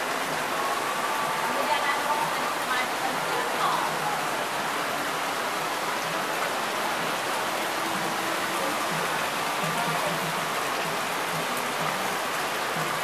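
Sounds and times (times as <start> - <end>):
heavy rain on ground and plants: 0.0 - 13.0.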